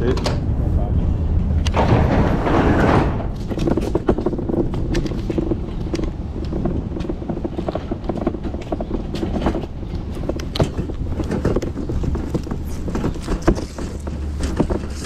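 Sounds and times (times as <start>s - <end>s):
truck engine droning: 0.0s - 15.0s
truck body rattling and knocking: 1.2s - 15.0s.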